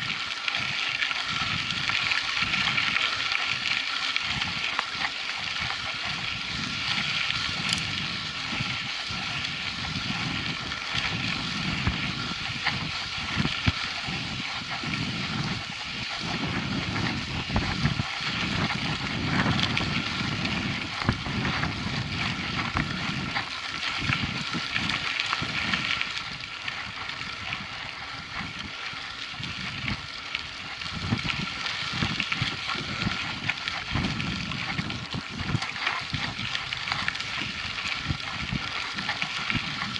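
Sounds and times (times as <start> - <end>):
bike knocking and rattling: 0.0 - 39.9
bike tyres on dirt trail: 0.0 - 39.9
wind rumbling on microphone: 0.0 - 39.9.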